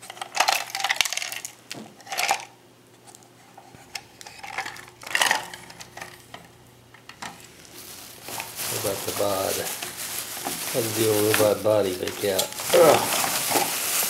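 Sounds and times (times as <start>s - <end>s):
plastic parts clattering: 0.0s - 2.5s, 3.8s - 6.5s, 7.1s - 14.0s.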